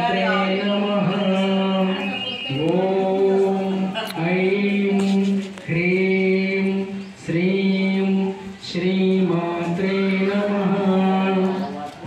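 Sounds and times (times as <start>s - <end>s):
person chanting mantra: 0.0s - 12.0s.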